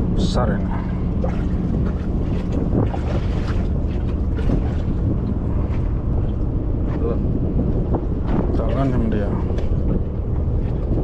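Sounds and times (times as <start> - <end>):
steady low drone: 0.0 - 11.0
wind buffeting microphone: 0.0 - 11.0.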